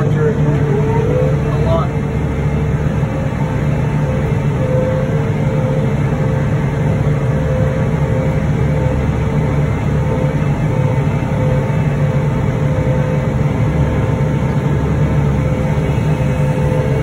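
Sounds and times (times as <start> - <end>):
deep engine drone: 0.0 - 17.0
steady machine whine: 0.0 - 17.0.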